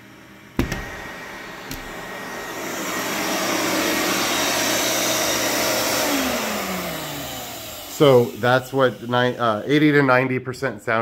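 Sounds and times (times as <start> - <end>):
vacuum cleaner running: 0.0 - 10.4.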